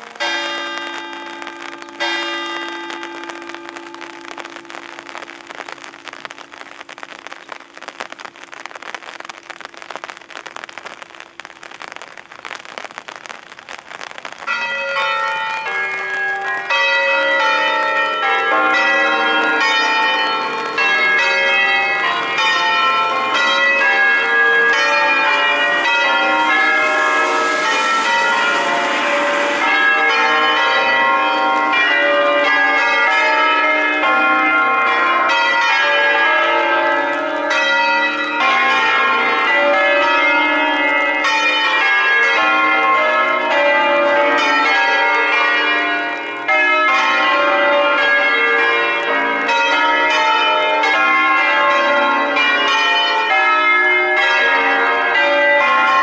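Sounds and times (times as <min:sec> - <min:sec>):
church bells pealing: 0:00.0 - 0:06.6, 0:14.5 - 0:56.0.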